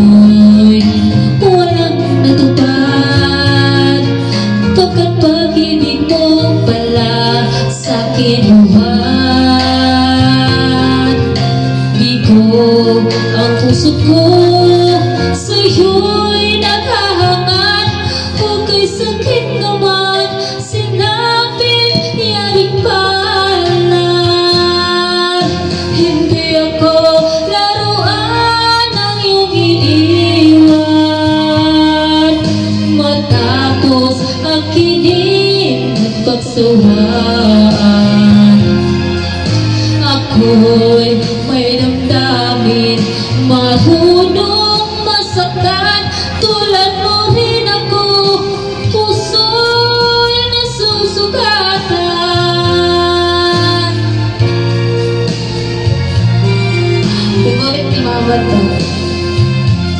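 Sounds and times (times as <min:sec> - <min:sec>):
instrumental backing music: 0:00.0 - 0:59.9
woman singing a ballad: 0:00.0 - 0:59.9.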